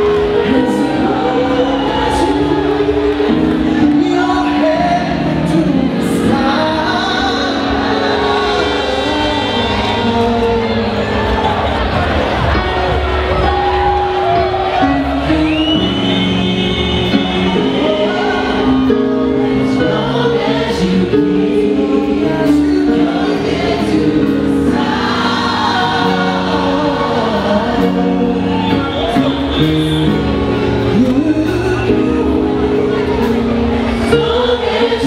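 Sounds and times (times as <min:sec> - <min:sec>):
bass-heavy backing music: 0:00.0 - 0:35.0
gospel choir singing: 0:00.0 - 0:35.0.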